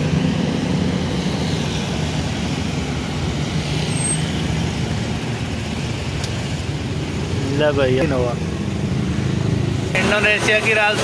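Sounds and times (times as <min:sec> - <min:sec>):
auto-rickshaw engine drone: 0:00.0 - 0:11.0
road traffic: 0:00.0 - 0:11.0.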